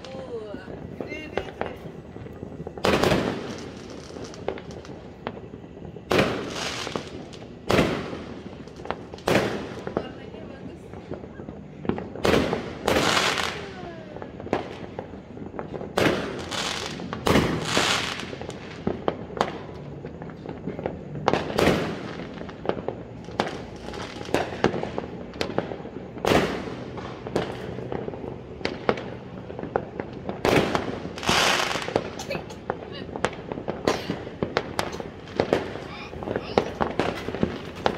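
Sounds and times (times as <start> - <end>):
firework bangs: 0.0 - 37.9
firework crackle: 0.0 - 37.9.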